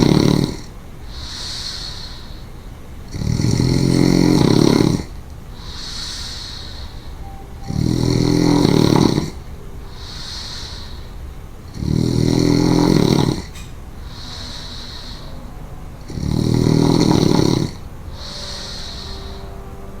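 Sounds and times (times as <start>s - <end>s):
woman snoring: 0.0s - 2.4s, 3.1s - 19.7s
soft hissy breath: 0.0s - 3.3s, 4.8s - 20.0s.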